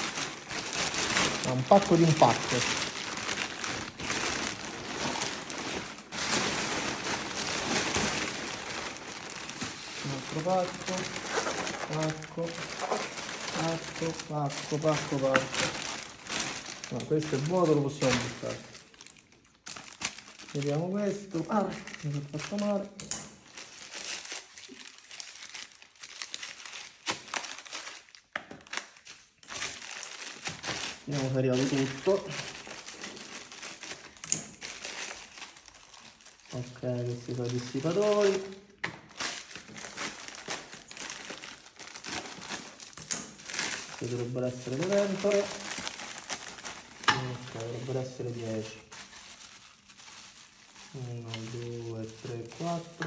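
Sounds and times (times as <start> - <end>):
plastic wrap and cardboard rustling: 0.0 - 53.0.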